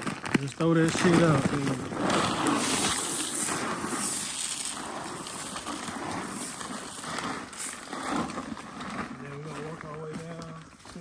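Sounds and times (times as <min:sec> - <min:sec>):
corn kernels pouring onto ground: 0:00.0 - 0:10.7.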